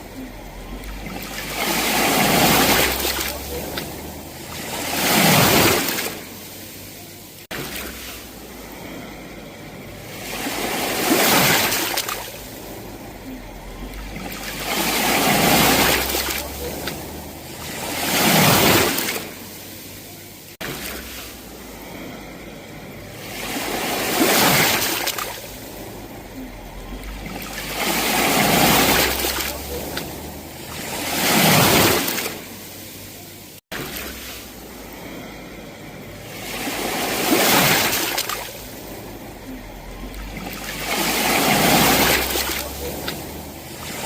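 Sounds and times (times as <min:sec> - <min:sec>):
surf washing: 0:00.0 - 0:44.0
waves crashing on shore: 0:00.0 - 0:44.0.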